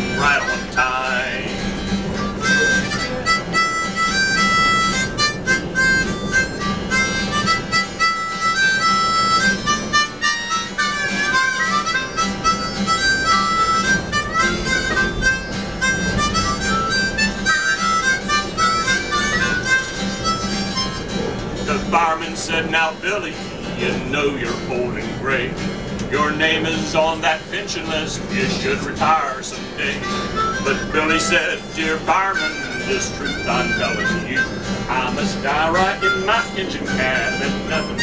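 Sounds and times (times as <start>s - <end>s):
harmonicas playing a melody: 0.0s - 25.2s, 25.8s - 38.0s
steady low hum: 0.0s - 38.0s.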